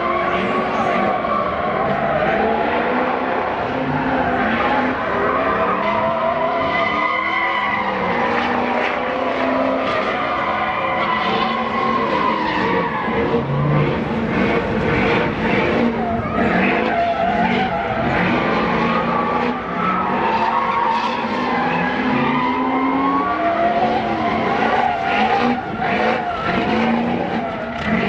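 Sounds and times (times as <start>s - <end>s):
tires squealing: 0.0s - 28.0s
truck engine revving: 0.0s - 28.0s.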